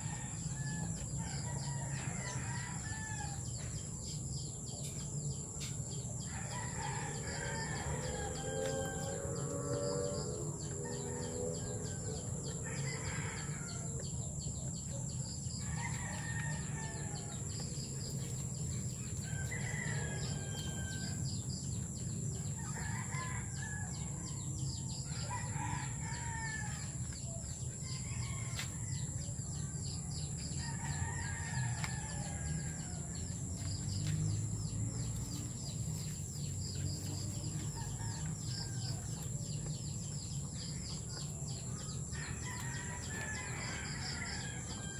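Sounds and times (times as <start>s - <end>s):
chickens and roosters calling: 0.0s - 44.9s.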